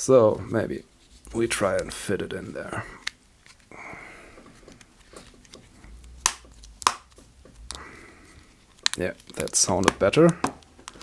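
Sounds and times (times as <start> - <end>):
faint handling rustle: 0.0 - 11.0.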